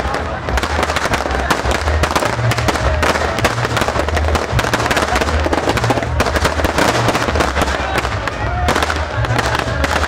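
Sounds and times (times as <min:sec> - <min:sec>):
firecrackers crackling and banging: 0:00.0 - 0:10.0.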